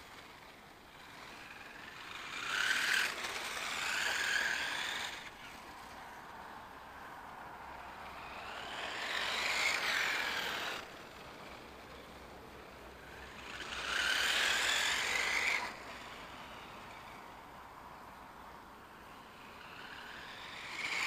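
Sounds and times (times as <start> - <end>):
rc car motor whining: 0.0 - 6.8, 7.7 - 21.0.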